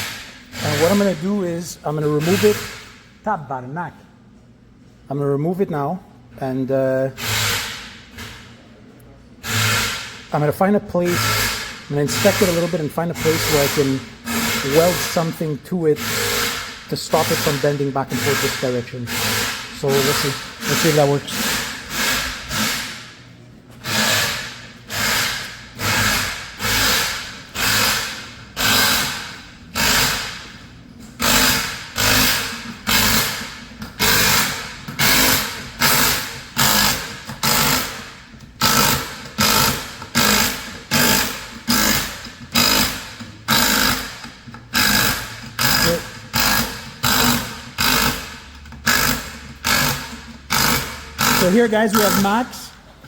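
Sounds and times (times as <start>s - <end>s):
hand tool rasping strokes: 0.0s - 3.0s, 9.4s - 23.0s, 23.8s - 30.5s, 31.2s - 52.7s.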